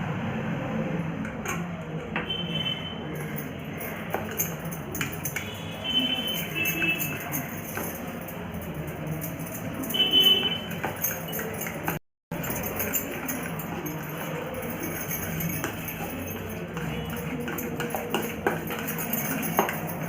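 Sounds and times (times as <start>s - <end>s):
spoon clinking against bowl: 1.2s - 20.0s
spoon stirring batter in bowl: 3.0s - 20.0s.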